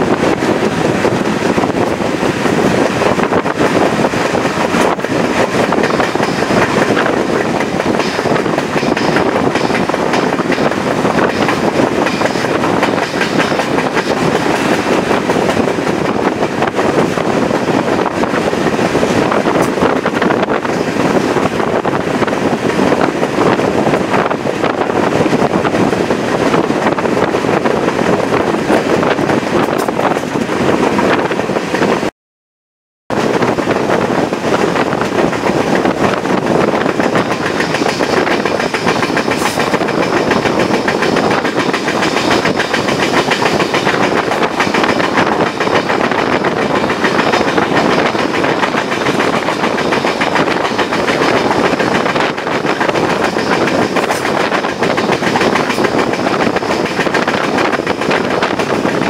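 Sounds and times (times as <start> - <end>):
train wheels clattering on rails: 0.0 - 32.1, 33.1 - 59.0.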